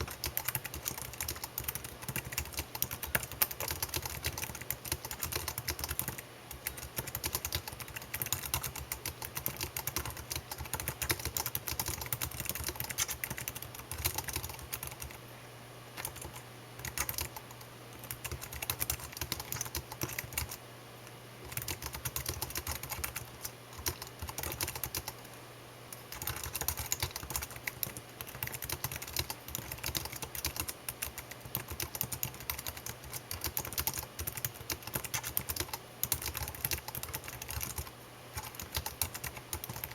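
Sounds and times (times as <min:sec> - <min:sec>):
typing on computer keyboard: 0:00.0 - 0:15.2, 0:16.0 - 0:20.6, 0:21.4 - 0:25.2, 0:25.9 - 0:39.9.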